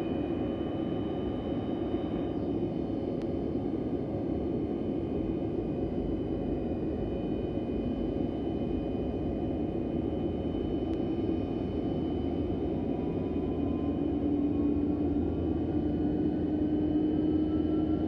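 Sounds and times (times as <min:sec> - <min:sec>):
high turbine whine: 0:00.0 - 0:18.0.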